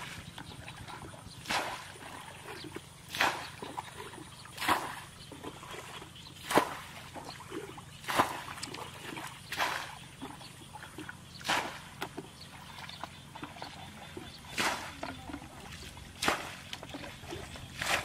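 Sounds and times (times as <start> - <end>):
water splashing from bucket: 0.0 - 18.0.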